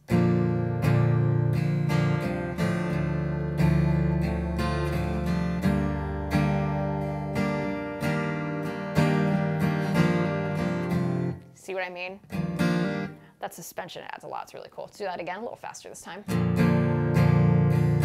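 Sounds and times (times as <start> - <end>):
acoustic guitar strumming: 0.0 - 13.3, 16.2 - 18.0.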